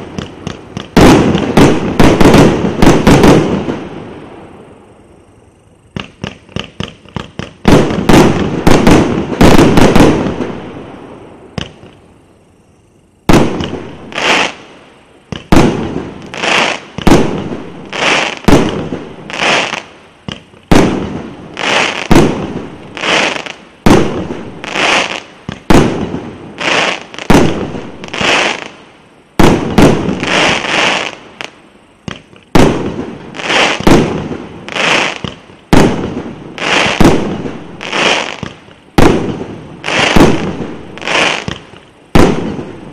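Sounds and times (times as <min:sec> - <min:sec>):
fireworks bangs with echoes: 0:00.0 - 0:03.8, 0:06.0 - 0:10.6, 0:13.3 - 0:14.6, 0:15.3 - 0:28.7, 0:29.4 - 0:31.2, 0:32.0 - 0:42.9.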